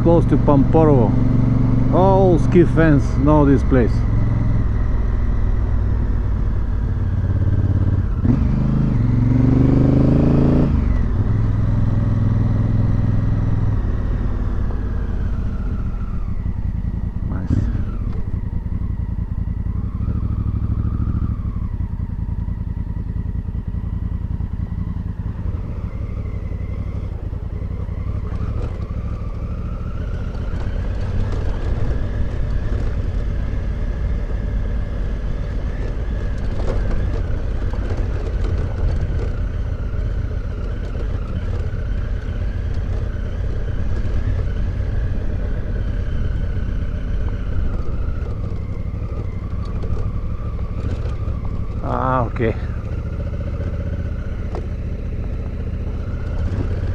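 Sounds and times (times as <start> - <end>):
motorcycle engine rumbling: 0.0 - 56.9.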